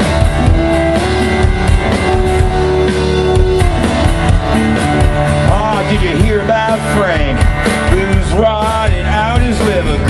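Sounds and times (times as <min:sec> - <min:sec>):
bass guitar: 0:00.0 - 0:10.0
distorted electric guitar chords: 0:00.0 - 0:10.0
drum kit beat: 0:00.0 - 0:10.0.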